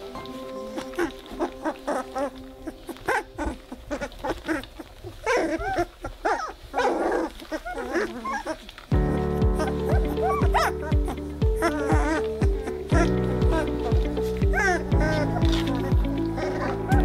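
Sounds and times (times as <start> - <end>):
puppies whimpering and squeaking: 0.0 - 17.0
puppy grumbling call: 0.0 - 17.0.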